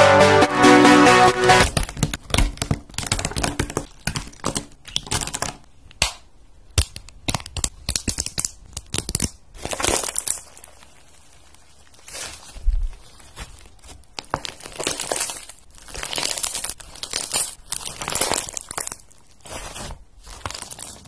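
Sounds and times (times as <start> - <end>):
slime crackling and squelching: 1.5 - 6.0, 6.6 - 21.0.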